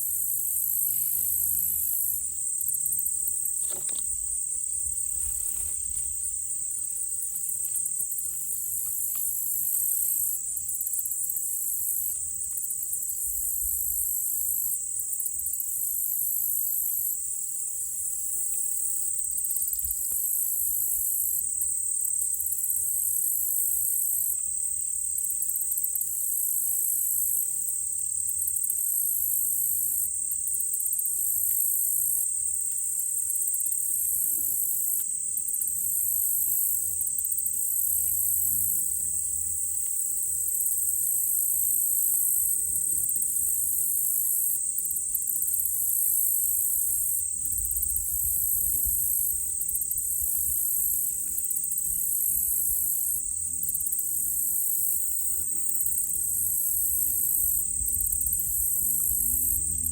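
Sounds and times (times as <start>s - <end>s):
crickets trilling: 0.0s - 59.9s
shrill pulsing insect layer: 0.0s - 59.9s.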